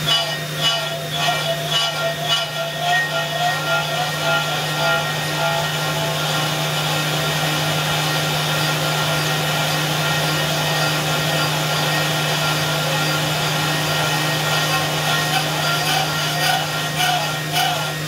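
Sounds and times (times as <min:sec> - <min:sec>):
milling machine spindle hum: 0:00.0 - 0:18.0.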